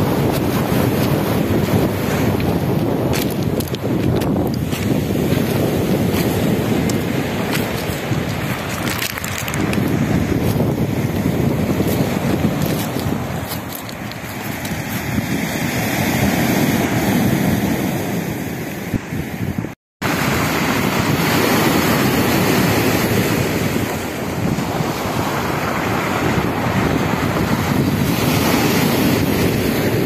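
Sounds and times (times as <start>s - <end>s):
surf on pebble beach: 0.0s - 30.0s
wind buffeting microphone: 0.0s - 30.0s.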